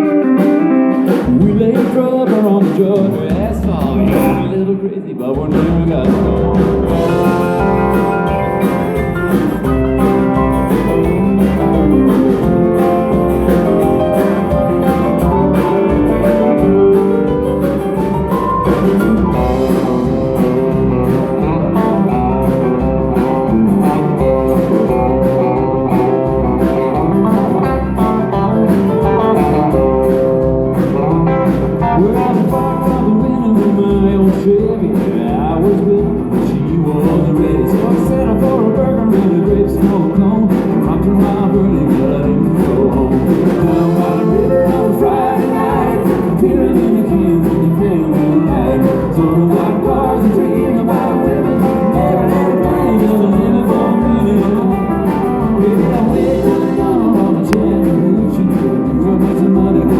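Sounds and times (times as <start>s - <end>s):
country band playing: 0.0s - 59.9s
lead guitar: 0.0s - 59.9s
steady drum beat: 0.0s - 59.9s.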